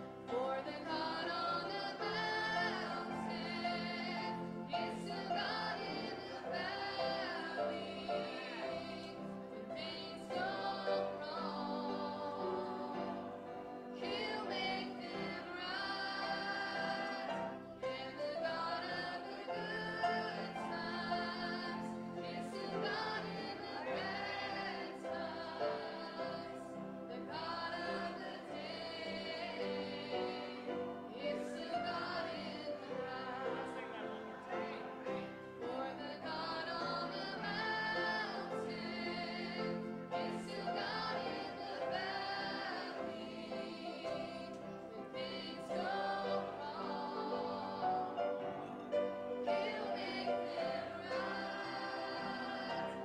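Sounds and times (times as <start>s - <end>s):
choir singing gospel: 0.0s - 53.0s
sustained organ: 0.0s - 53.0s.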